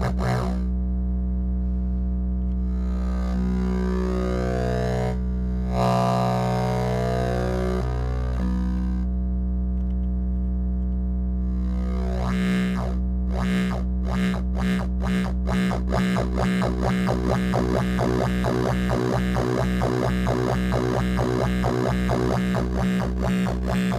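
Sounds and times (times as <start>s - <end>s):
low buzzy synth drone: 0.0s - 23.9s.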